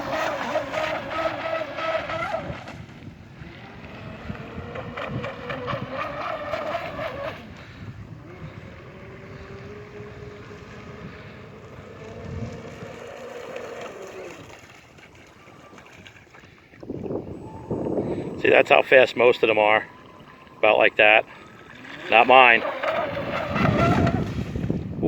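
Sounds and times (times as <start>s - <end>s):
electric motor whining: 0.0s - 14.7s, 16.8s - 25.0s.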